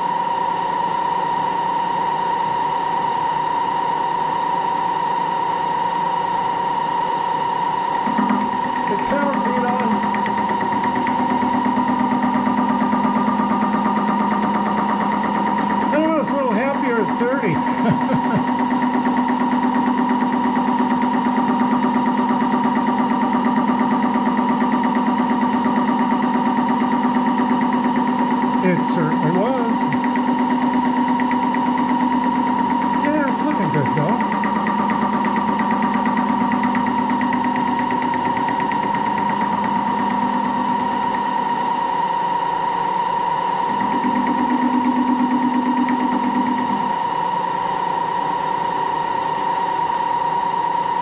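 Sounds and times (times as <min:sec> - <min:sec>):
machine drone with high whine: 0:00.0 - 0:51.0.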